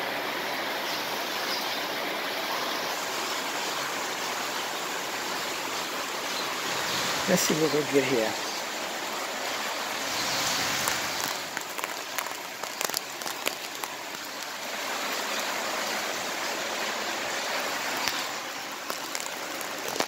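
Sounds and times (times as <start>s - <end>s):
heavy rain hissing: 0.0s - 20.0s
raindrops ticking nearby: 2.6s - 20.0s.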